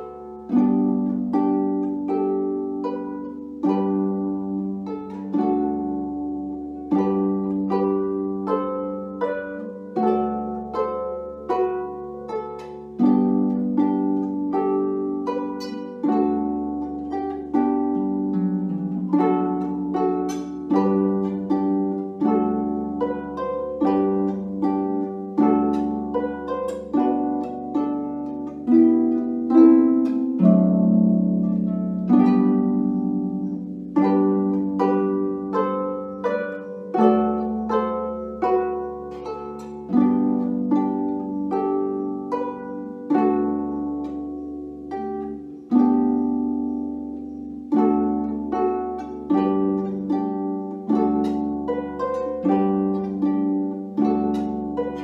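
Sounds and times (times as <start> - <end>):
harp playing broken chords: 0.0 - 55.0.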